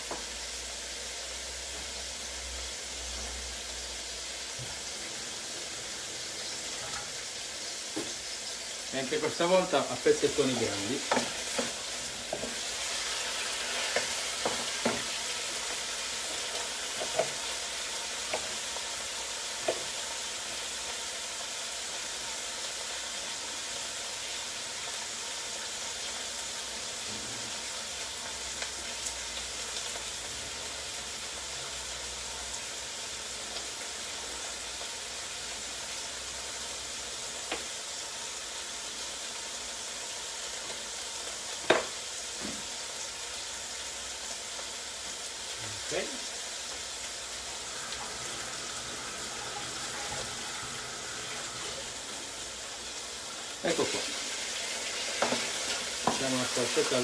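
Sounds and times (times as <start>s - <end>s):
vegetables sizzling in oil: 0.0s - 57.0s.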